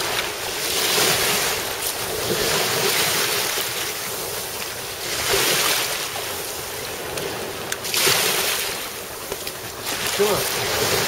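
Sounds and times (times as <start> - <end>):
waves washing onto pebbles: 0.0 - 11.0.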